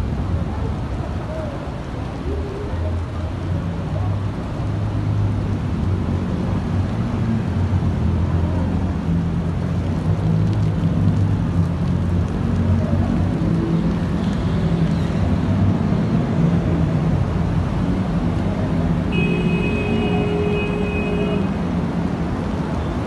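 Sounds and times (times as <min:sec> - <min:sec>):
heavy rain on street: 0:00.0 - 0:23.0.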